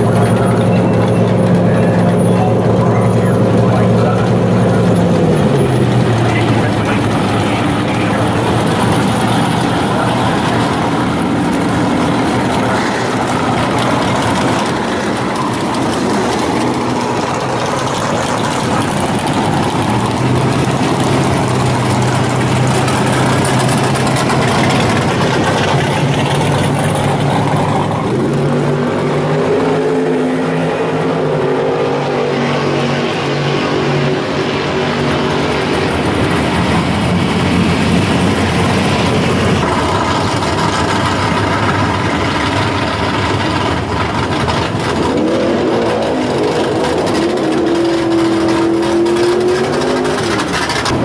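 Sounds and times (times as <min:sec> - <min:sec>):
muscle car engines idling past: 0:00.0 - 0:31.3, 0:33.2 - 0:51.0
deep steady engine note: 0:00.0 - 0:51.0.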